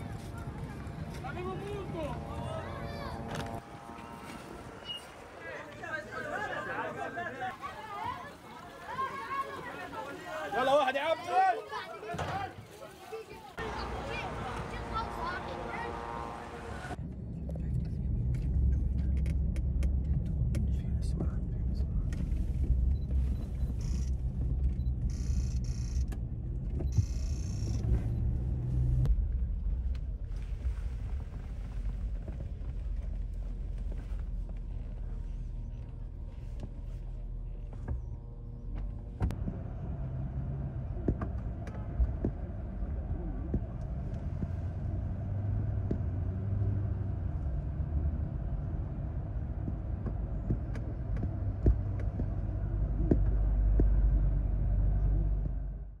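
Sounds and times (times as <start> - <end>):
low street rumble: 0.0 - 56.0.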